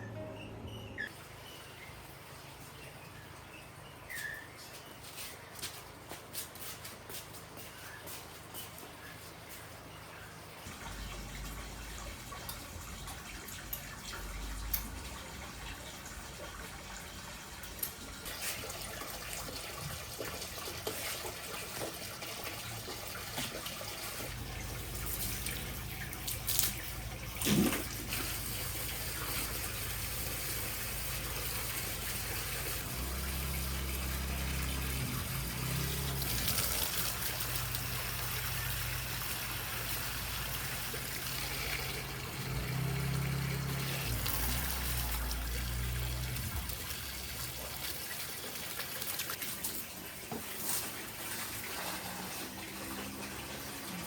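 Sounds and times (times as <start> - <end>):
water running from a tap: 10.7 - 54.0.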